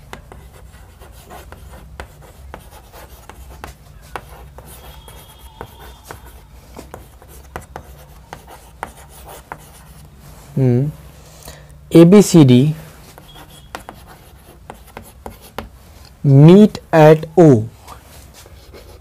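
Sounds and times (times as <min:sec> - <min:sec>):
chalk scratching on chalkboard: 0:00.0 - 0:11.2, 0:12.8 - 0:16.1, 0:17.9 - 0:19.0.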